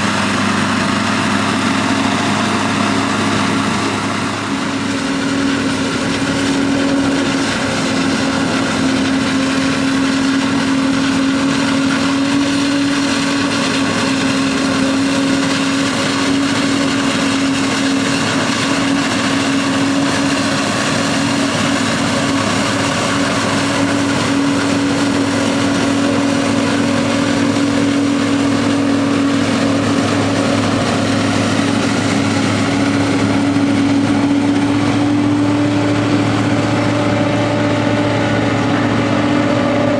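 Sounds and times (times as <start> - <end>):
heavy farm machinery drone: 0.0 - 39.9.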